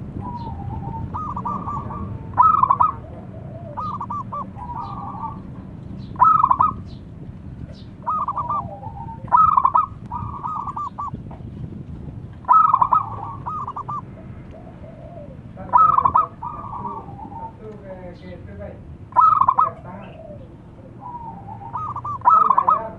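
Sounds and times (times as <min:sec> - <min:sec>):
dove cooing: 0:00.0 - 0:07.0, 0:07.6 - 0:11.2, 0:12.4 - 0:18.0, 0:19.1 - 0:22.9.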